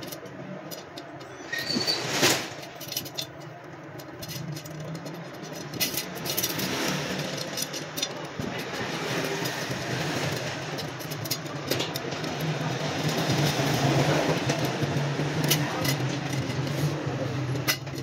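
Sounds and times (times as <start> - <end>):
metallic clicks of spokes: 0.0 - 1.4, 2.6 - 18.0.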